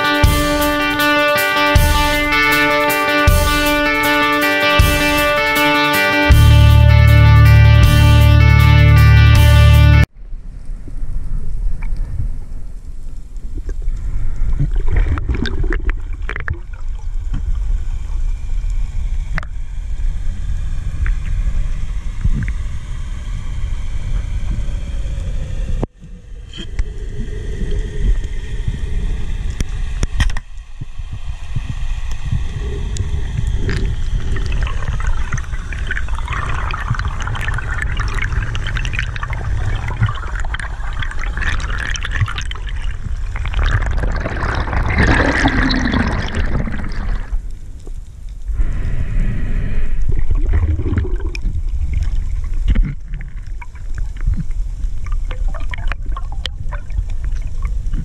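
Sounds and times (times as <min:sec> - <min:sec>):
low rumble of water moving: 0:10.0 - 0:58.0
dense fine crackle: 0:10.2 - 0:58.0.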